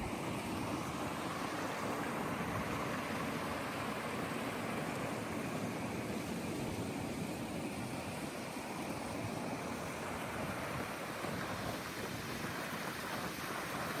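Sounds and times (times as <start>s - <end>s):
rushing water: 0.0s - 14.0s
wind: 0.0s - 14.0s.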